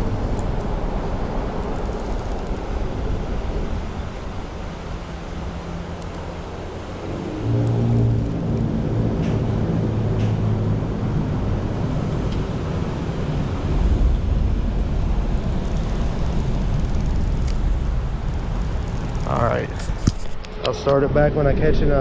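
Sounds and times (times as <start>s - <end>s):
engine droning: 0.0s - 22.0s
wind rumble on microphone: 0.0s - 22.0s.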